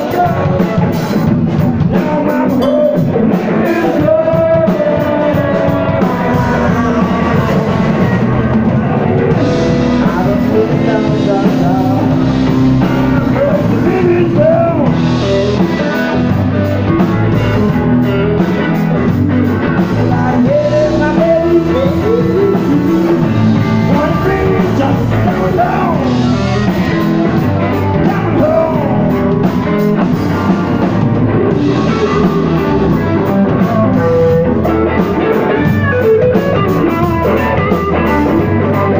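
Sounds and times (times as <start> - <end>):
bass guitar: 0.0 - 38.9
drum kit: 0.0 - 38.9
electric guitar: 0.0 - 38.9
man singing: 0.0 - 38.9.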